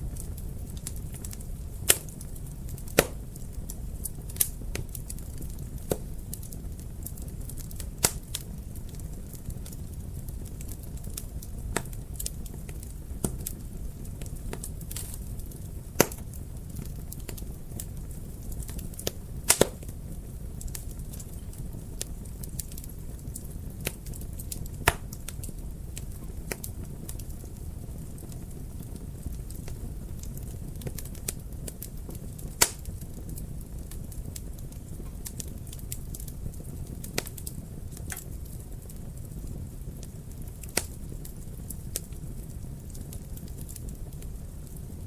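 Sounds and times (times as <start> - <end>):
fire crackling in a fireplace: 0.0 - 45.0.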